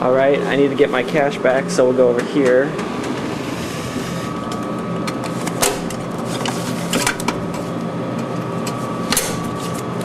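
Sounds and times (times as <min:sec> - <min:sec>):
vending machine electrical hum: 0:00.0 - 0:10.0.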